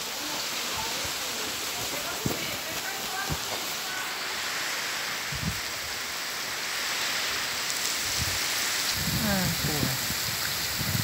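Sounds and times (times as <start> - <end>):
heavy rain on flooded ground: 0.0 - 11.0.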